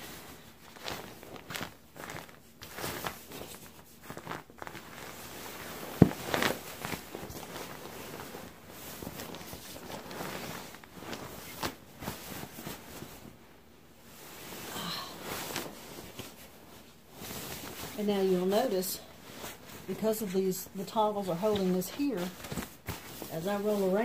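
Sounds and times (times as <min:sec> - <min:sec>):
fabric rustling: 0:00.0 - 0:24.0.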